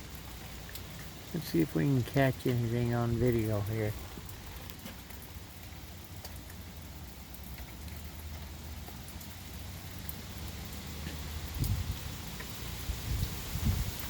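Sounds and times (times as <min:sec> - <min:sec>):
sharp drip ticks: 0:00.0 - 0:14.0
steady rain falling: 0:00.0 - 0:14.0.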